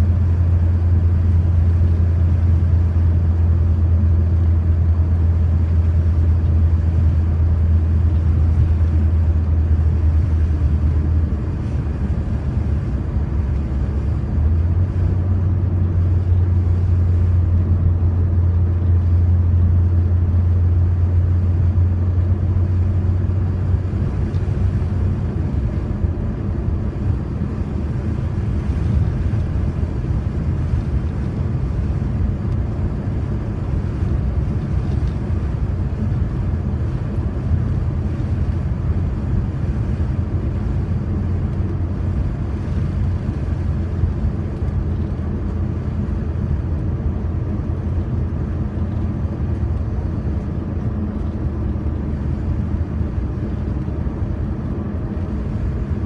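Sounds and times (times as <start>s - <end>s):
car engine and tyre drone: 0.0s - 56.0s
road noise: 0.0s - 56.0s.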